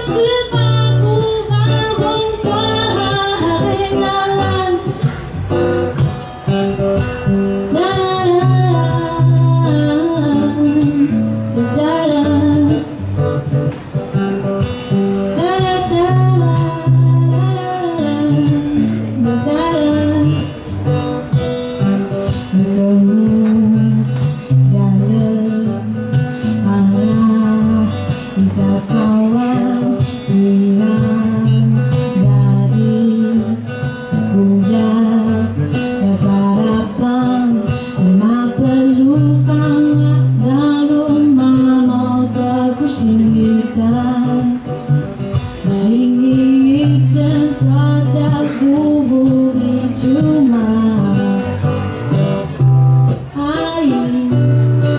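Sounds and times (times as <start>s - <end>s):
woman singing: 0.0s - 5.4s, 7.4s - 13.2s, 14.9s - 51.7s, 53.1s - 54.9s
acoustic guitar: 0.0s - 54.9s.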